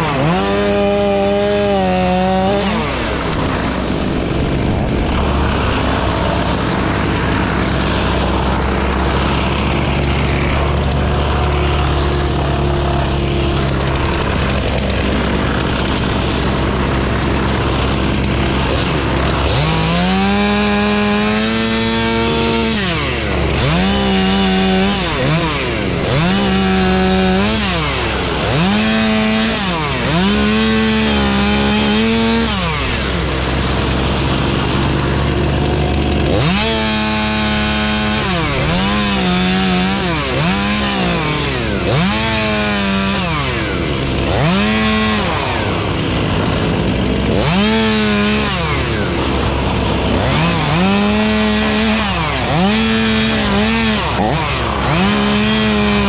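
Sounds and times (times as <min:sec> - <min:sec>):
chainsaw revving: 0:00.0 - 0:56.0
steady engine drone: 0:00.0 - 0:56.0.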